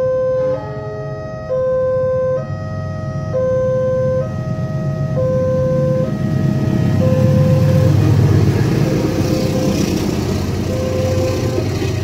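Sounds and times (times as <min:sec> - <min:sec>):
level crossing warning alarm: 0:00.0 - 0:12.0
train engine and wheel rumble: 0:00.0 - 0:12.0.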